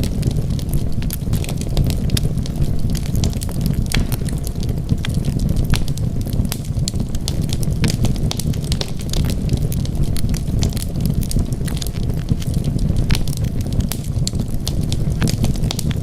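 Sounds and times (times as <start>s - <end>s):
fireplace flame rumbling: 0.0s - 16.0s.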